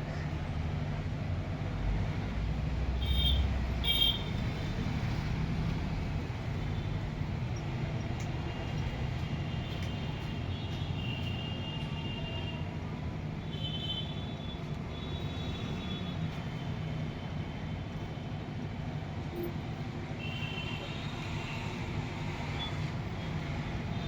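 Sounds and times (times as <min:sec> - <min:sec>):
low rumble of street traffic: 0:00.0 - 0:24.0.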